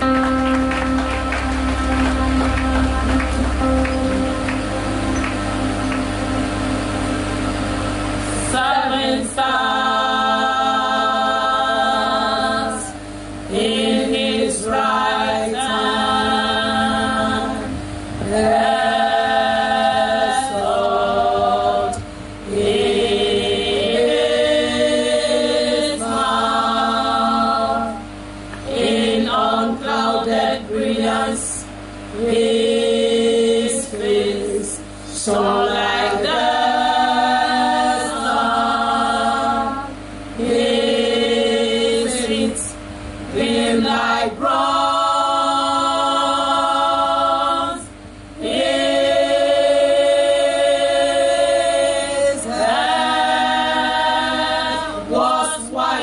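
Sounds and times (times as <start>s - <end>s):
church choir singing in harmony: 0.0s - 56.0s
steady low hum: 0.0s - 56.0s.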